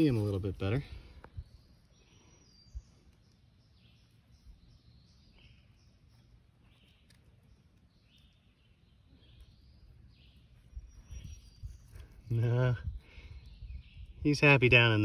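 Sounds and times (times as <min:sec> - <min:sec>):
faint high bird chirps: 0:01.3 - 0:15.0.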